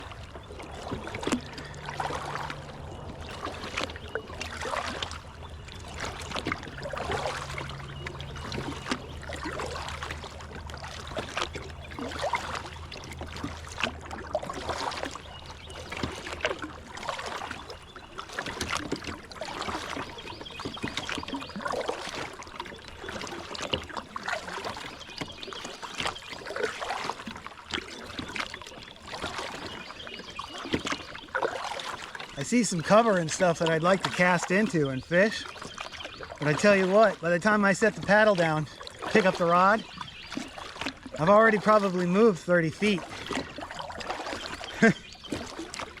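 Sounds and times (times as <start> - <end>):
paddle splashing in water: 0.0 - 46.0.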